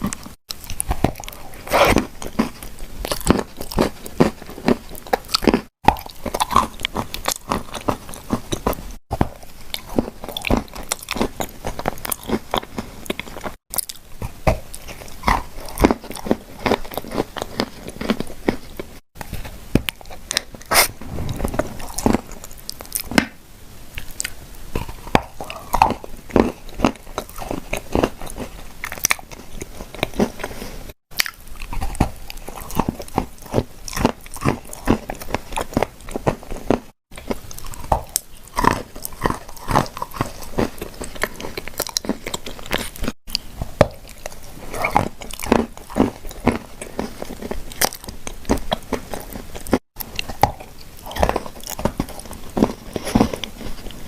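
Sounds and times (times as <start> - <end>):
person crunching cookies: 0.0 - 54.0.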